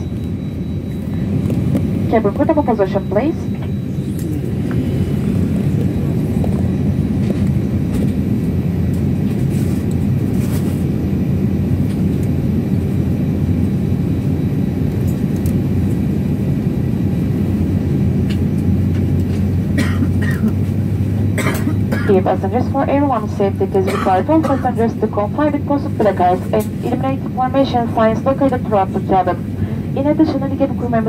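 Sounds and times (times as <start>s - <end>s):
airliner cabin drone: 0.0s - 31.0s.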